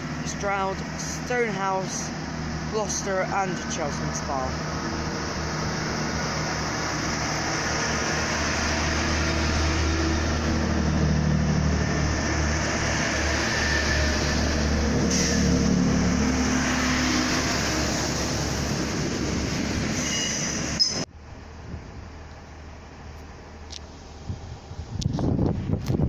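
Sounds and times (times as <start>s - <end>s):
diesel train engine drone: 0.0s - 26.0s
wheel and rail noise: 0.0s - 26.0s.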